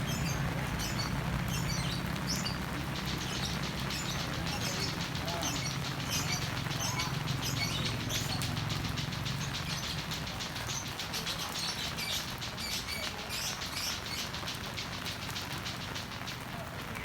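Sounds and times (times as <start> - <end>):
heavy rain falling: 0.0 - 17.0
small birds chirping: 0.0 - 17.0.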